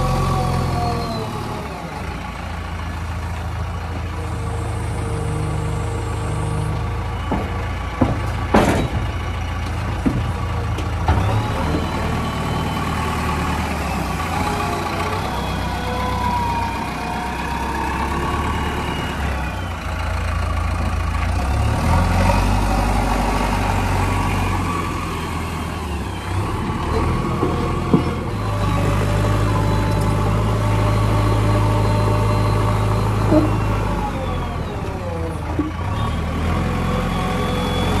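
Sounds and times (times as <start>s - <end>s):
diesel engine working: 0.0s - 38.0s.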